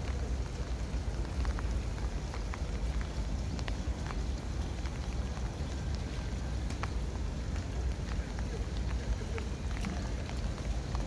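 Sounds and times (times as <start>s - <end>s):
rain falling: 0.0s - 11.0s
steady low rumble: 0.0s - 11.0s.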